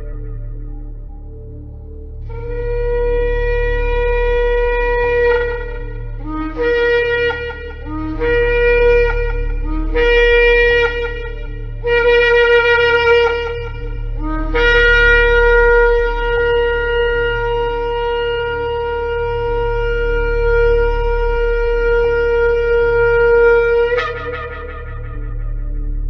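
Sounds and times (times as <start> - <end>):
shofar blasts: 2.3 - 26.0.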